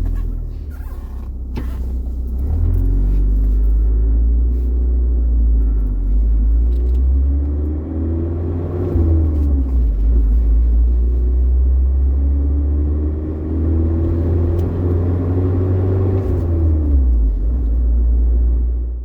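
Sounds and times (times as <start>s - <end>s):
pickup truck engine and road rumble: 0.0s - 19.0s.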